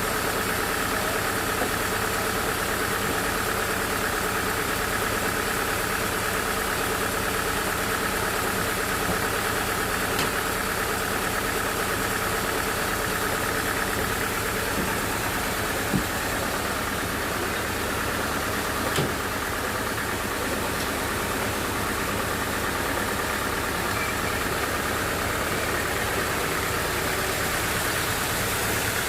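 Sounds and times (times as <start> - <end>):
sawmill machine hum: 0.0 - 29.0.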